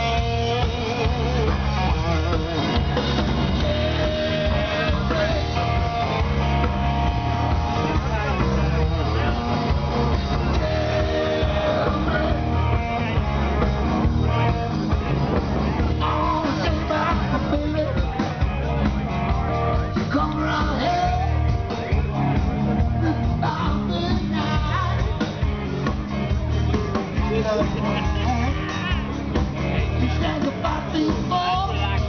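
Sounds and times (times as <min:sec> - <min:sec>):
loud rock music: 0:00.0 - 0:32.0.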